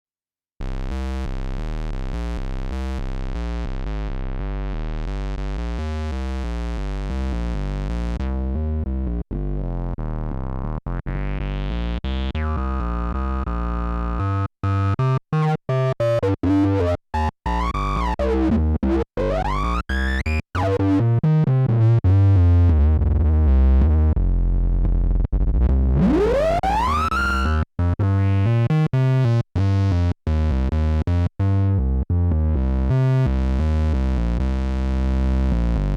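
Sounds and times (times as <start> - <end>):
synthesizer bass and sequence: 0.6 - 35.9.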